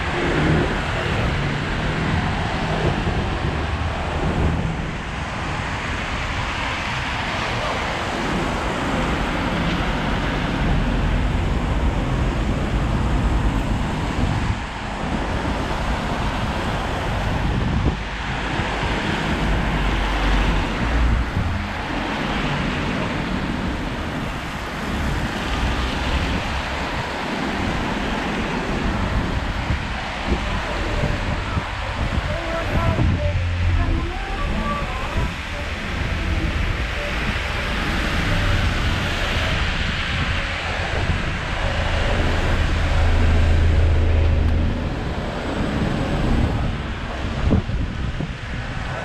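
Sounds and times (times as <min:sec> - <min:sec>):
traffic passing on wet road: 0:00.0 - 0:49.0
wind rumble on microphone: 0:00.0 - 0:49.0.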